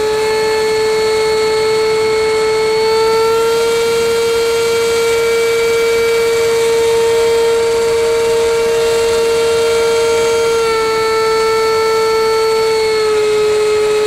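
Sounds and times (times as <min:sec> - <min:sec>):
model jet engine whine: 0:00.0 - 0:14.0.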